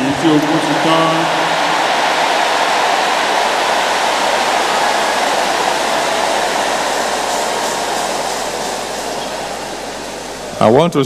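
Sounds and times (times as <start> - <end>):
crowd cheering and shouting: 0.0 - 10.8.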